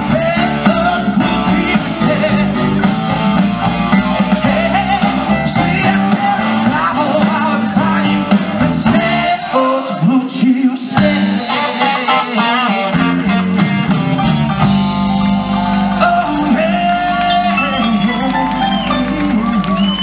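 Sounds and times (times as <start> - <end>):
man singing: 0.0 - 3.2, 4.0 - 14.0, 15.9 - 20.0
live blues-rock band: 0.0 - 20.0.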